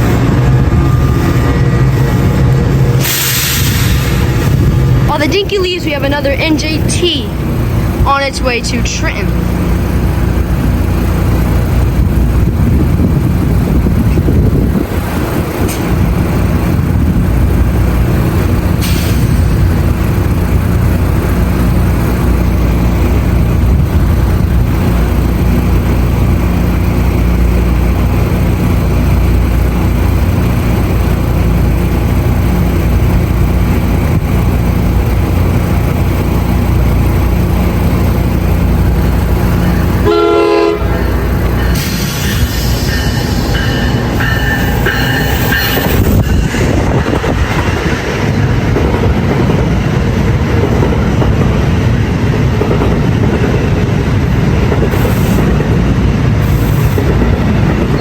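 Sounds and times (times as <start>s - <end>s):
train rumbling: 0.0s - 58.0s.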